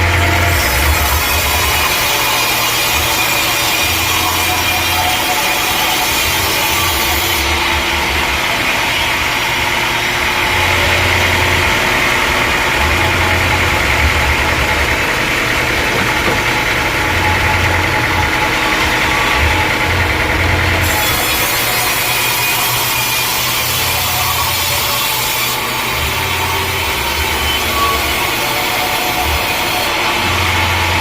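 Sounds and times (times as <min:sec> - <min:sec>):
low hum of mill machinery: 0:00.0 - 0:31.0
saw cutting a log: 0:00.0 - 0:31.0.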